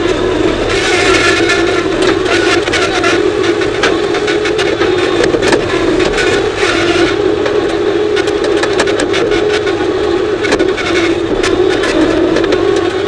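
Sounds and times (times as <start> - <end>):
machine rattles and clanks: 0.0 - 13.0
skid steer engine running: 0.0 - 13.0.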